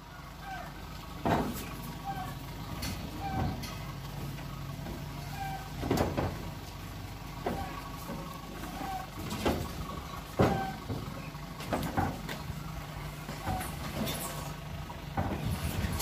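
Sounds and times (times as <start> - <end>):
metal sections clanking: 0.5 - 16.0.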